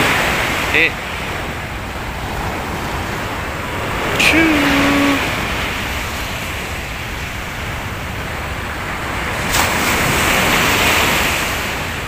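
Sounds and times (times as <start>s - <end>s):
surf rushing on a beach: 0.0s - 12.0s
wind rumble on microphone: 0.0s - 12.0s.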